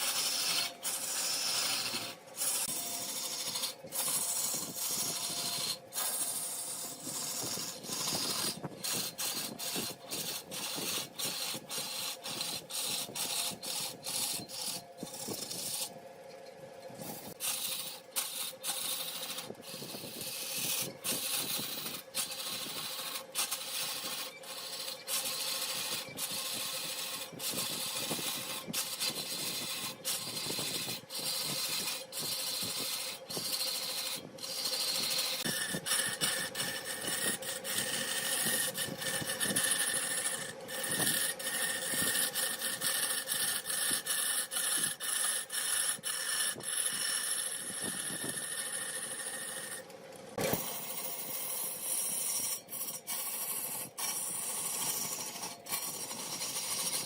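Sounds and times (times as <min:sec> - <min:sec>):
turning tool rasping on wood: 0:00.0 - 0:16.0, 0:16.9 - 0:57.0
lathe motor hum: 0:00.0 - 0:57.0.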